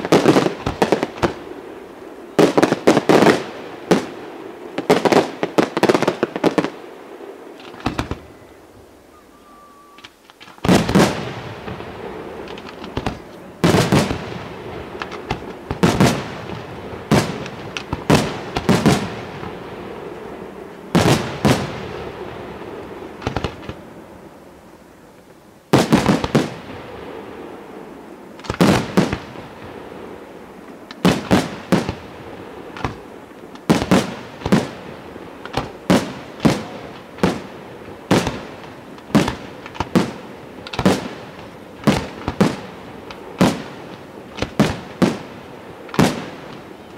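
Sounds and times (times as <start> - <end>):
firework booms: 0.0 - 8.9, 10.0 - 24.3, 25.7 - 46.9
crackle of burning fireworks: 0.0 - 9.2, 9.8 - 46.9.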